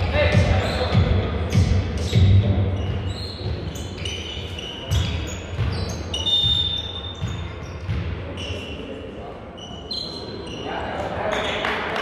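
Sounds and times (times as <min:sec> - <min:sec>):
shoes squeaking on floor: 0:00.0 - 0:11.7.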